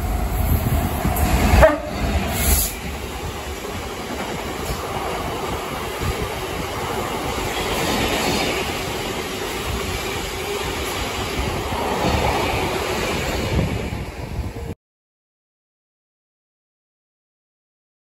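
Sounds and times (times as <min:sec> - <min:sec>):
train wheels rumbling on rail: 0:00.0 - 0:14.8.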